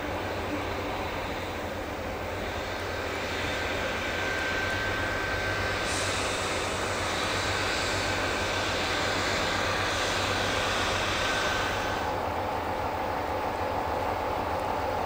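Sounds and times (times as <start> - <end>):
diesel train engine running: 0.0 - 15.0.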